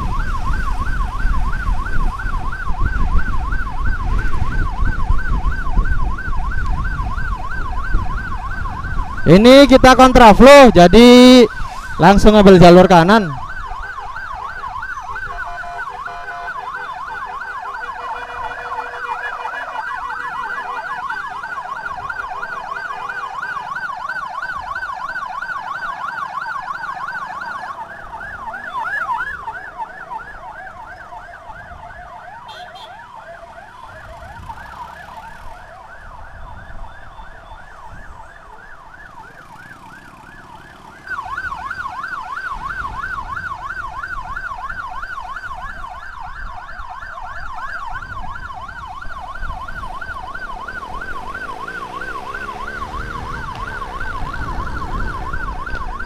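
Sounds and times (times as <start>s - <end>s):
road and engine noise: 0.0s - 56.0s
siren on fast yelp: 0.0s - 56.0s.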